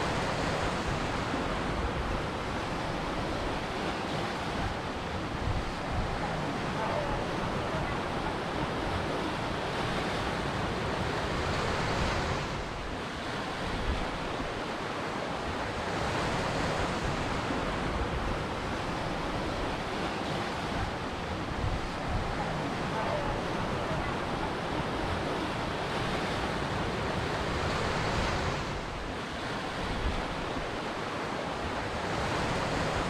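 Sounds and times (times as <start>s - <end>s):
waves breaking on shore: 0.0s - 33.0s.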